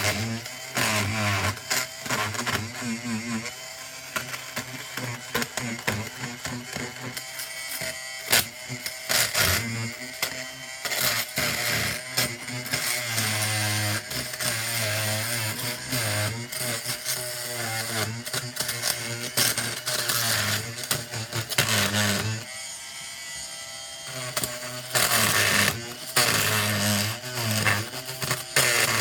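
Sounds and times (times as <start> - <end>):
oscillating multi-tool buzzing: 0.0 - 29.0.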